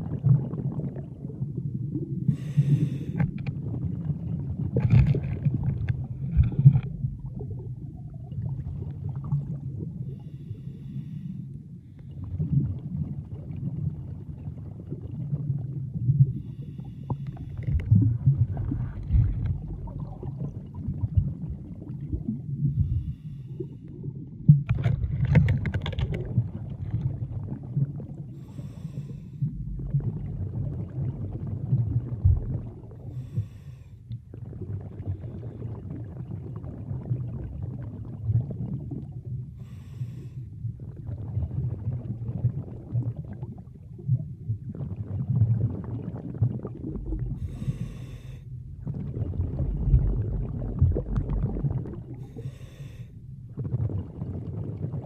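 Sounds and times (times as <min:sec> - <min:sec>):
underwater rumble of moving water: 0:00.0 - 0:55.0.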